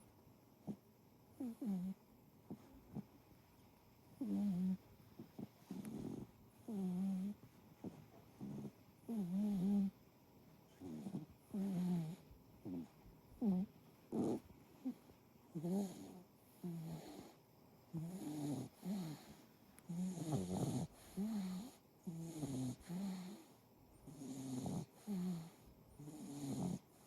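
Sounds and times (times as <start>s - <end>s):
cat snoring: 1.4s - 3.0s, 4.2s - 10.0s, 10.7s - 27.0s.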